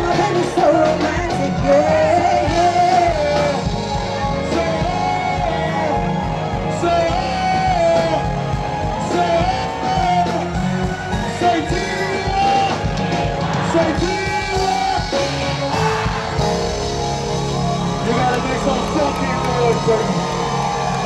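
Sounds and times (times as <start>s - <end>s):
crowd yelling and shouting: 0.0s - 21.0s
live concert music with vocals: 0.0s - 21.0s.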